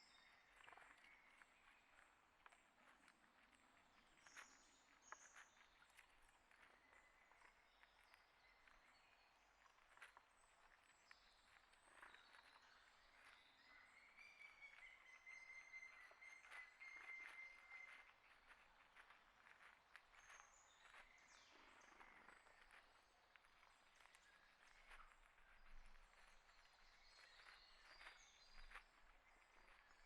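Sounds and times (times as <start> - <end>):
small birds chirping: 2.6 - 30.0.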